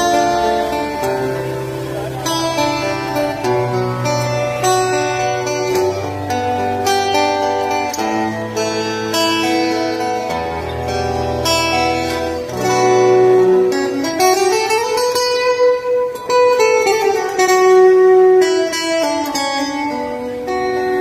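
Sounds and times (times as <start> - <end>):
acoustic guitar melody: 0.0 - 21.0.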